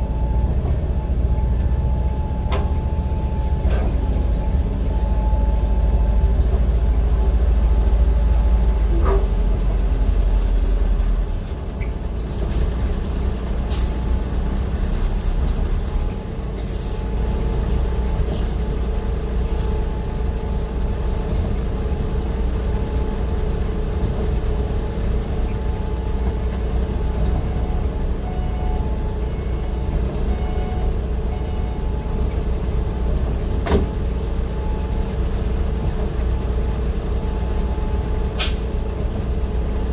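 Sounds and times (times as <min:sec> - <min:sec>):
heavy vehicle engine rumble: 0:00.0 - 0:39.9.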